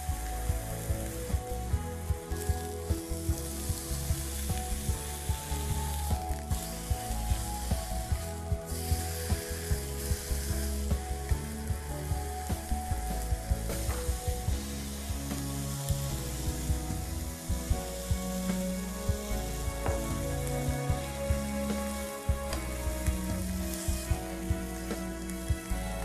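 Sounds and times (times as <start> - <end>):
background music: 0.0 - 26.0
chicken sizzling in a frying pan: 0.0 - 26.0.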